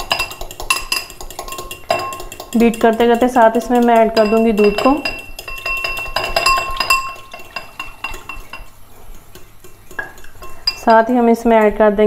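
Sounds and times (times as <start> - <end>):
utensil clinking against ceramic bowl: 0.0 - 11.9.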